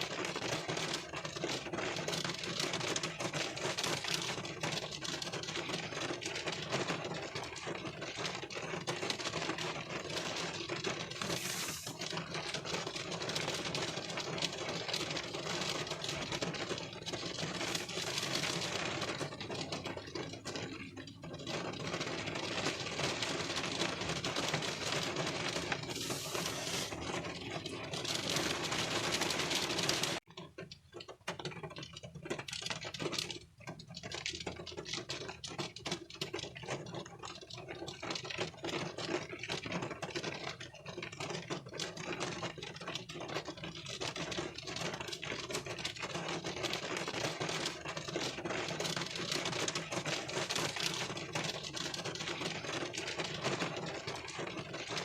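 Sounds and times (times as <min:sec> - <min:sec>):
rain pattering on windshield: 0:00.0 - 0:55.0.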